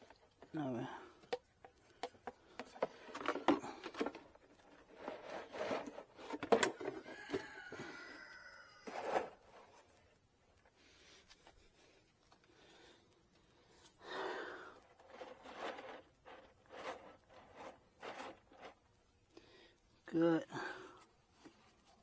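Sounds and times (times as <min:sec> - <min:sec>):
rustling and scraping of handled objects: 0:00.0 - 0:22.0.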